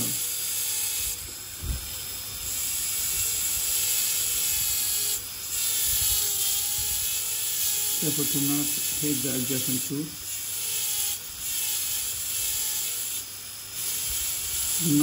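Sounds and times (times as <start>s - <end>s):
dental drill whining: 0.0s - 15.0s.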